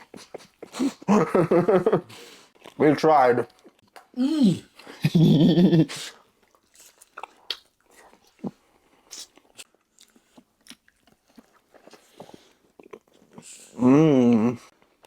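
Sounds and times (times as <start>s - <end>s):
people chewing food: 0.0s - 5.4s, 6.1s - 15.0s.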